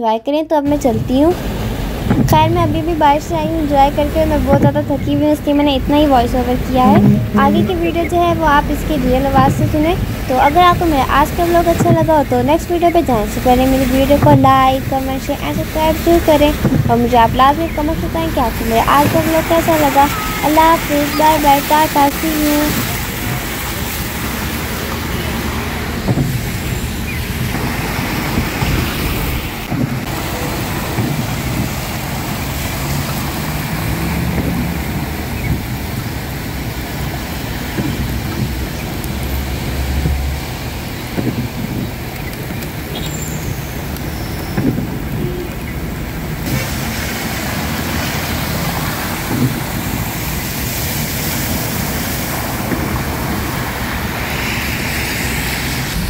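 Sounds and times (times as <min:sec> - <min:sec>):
car engines rumbling: 0:00.6 - 0:56.0
steady rain: 0:00.8 - 0:56.0
tyres hissing on wet road: 0:00.8 - 0:56.0.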